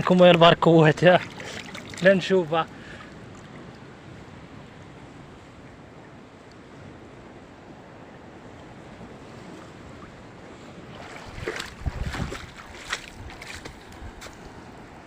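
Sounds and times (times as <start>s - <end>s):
sea surf: 0.0s - 15.0s
wave washing up on shore: 0.0s - 15.0s
wind buffeting microphone: 0.0s - 15.0s.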